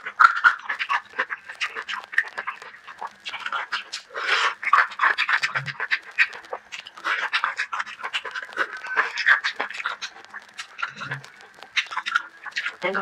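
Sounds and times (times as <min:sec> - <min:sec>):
chewing and slurping noodles: 0:00.0 - 0:13.0
mouth clicks and smacks: 0:00.0 - 0:13.0.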